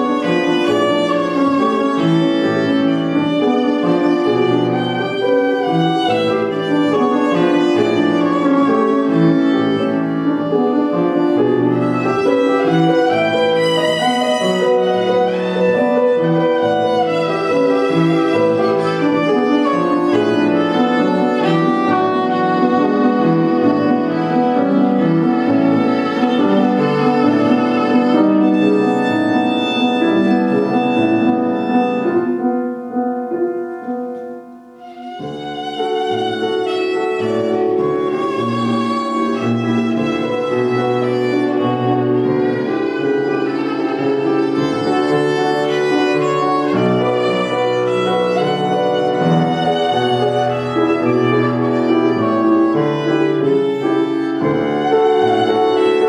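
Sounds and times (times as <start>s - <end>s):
solo violin: 0.0s - 32.5s, 34.7s - 56.0s
piano accompaniment: 0.0s - 56.0s.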